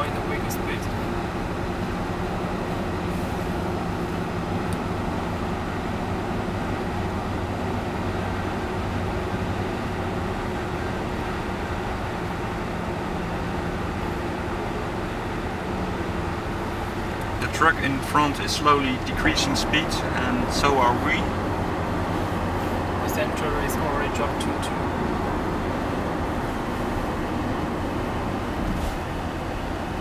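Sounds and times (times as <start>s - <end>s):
car engine hum: 0.0s - 30.0s.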